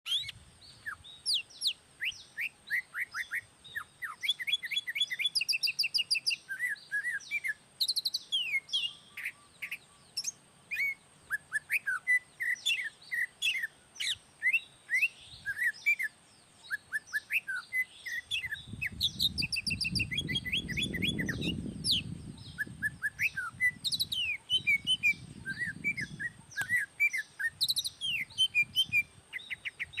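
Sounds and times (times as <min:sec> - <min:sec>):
songbird singing: 0:00.1 - 0:30.0.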